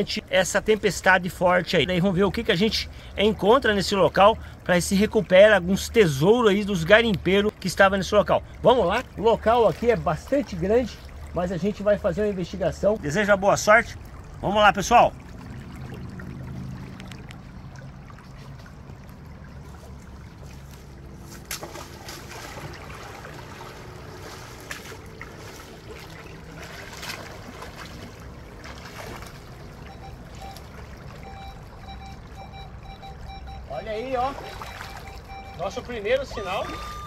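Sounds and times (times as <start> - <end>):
stream flowing over stones: 0.0 - 37.0
boots wading through water: 0.5 - 37.0
short splashes: 2.2 - 37.0.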